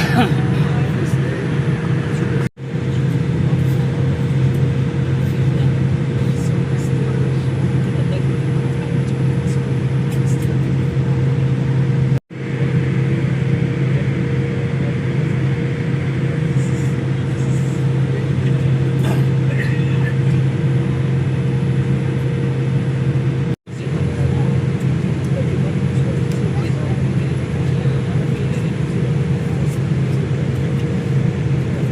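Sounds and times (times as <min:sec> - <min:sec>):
airliner cabin drone: 0:00.0 - 0:31.9.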